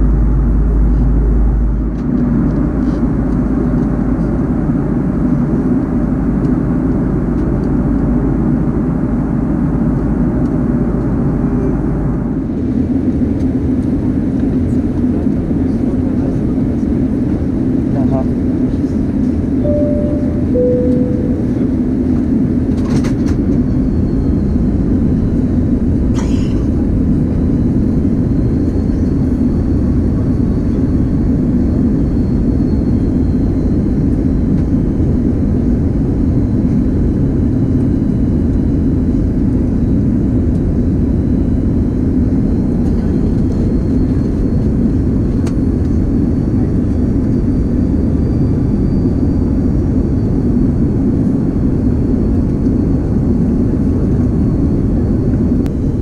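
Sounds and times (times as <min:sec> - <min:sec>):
airplane cabin engine and airflow rumble: 0:00.0 - 0:56.0.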